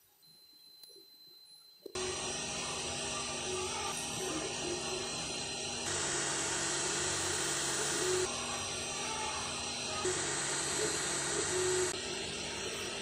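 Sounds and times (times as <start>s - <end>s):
printer hiss: 2.0s - 13.0s
stepper motors whining: 2.0s - 13.0s.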